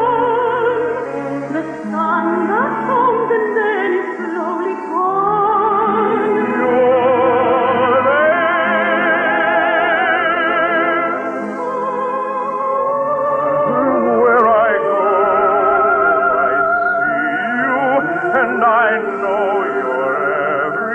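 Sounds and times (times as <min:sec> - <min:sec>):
operatic singing with vibrato: 0:00.0 - 0:20.9
orchestra playing: 0:00.0 - 0:20.9.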